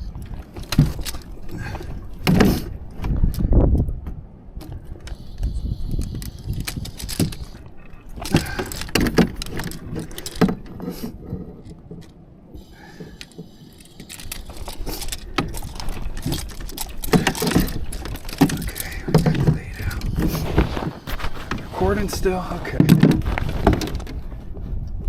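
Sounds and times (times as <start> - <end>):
gear knocking and rattling: 0.0 - 3.5, 6.0 - 12.2, 13.0 - 24.5.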